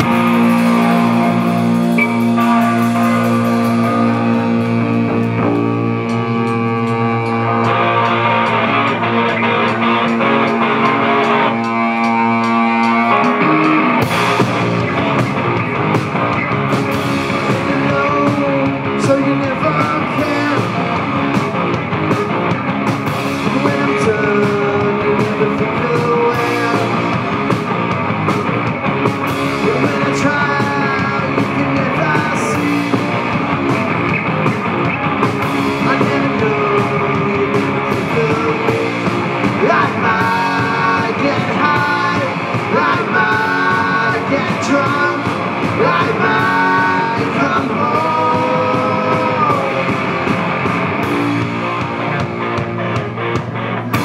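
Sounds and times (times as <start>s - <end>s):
bass guitar: 0.0s - 54.0s
drum kit: 0.0s - 54.0s
electric guitars: 0.0s - 54.0s.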